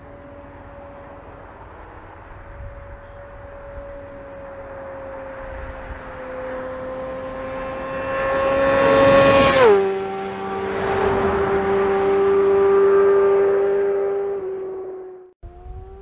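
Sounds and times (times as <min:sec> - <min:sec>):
motorcycle passing by: 0:00.0 - 0:16.0.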